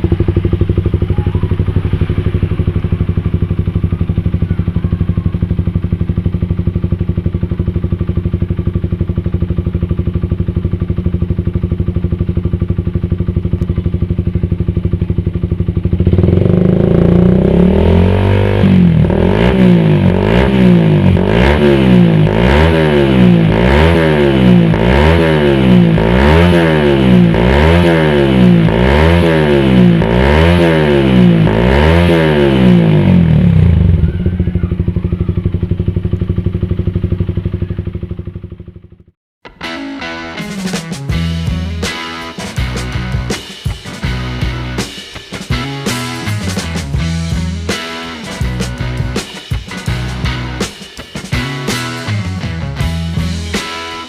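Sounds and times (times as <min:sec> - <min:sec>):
motorcycle engine idling: 0:00.0 - 0:30.2, 0:30.9 - 0:39.2, 0:41.1 - 0:53.7
motorcycle engine revving: 0:00.0 - 0:39.2, 0:40.6 - 0:54.0.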